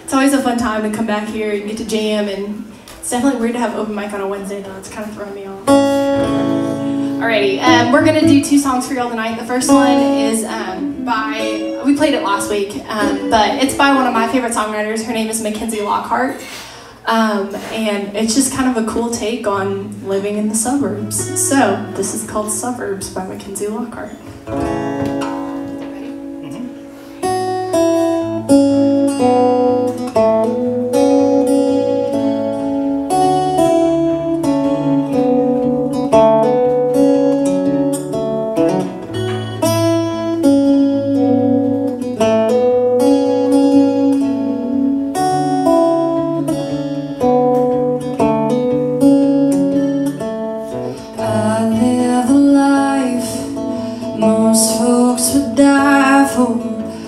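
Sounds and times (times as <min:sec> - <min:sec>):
acoustic guitars playing: 0:00.0 - 0:57.0.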